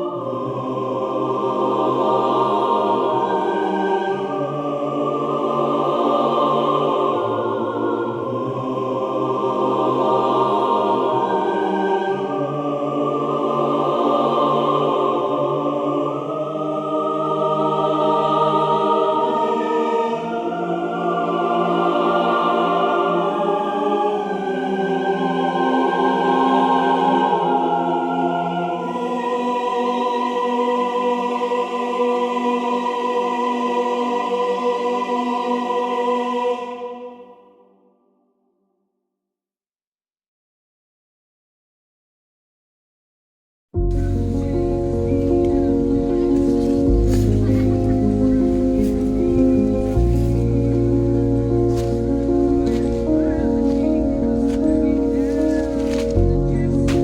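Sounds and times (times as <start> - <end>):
choir singing sustained chords: 0.0 - 38.1, 43.8 - 57.0.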